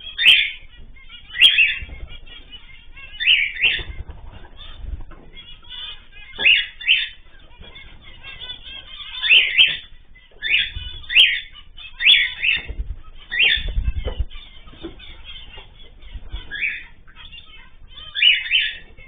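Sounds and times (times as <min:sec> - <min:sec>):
birds calling sharply: 0:00.0 - 0:02.3, 0:02.9 - 0:19.0.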